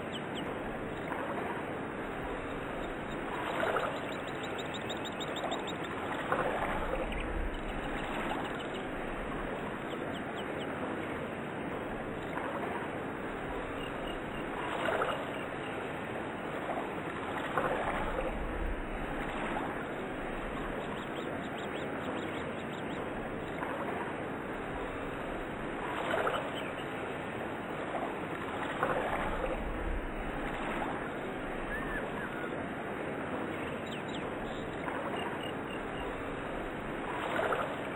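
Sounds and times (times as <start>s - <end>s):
faint chirps: 0.0s - 37.9s
rushing water-like noise: 0.0s - 37.9s.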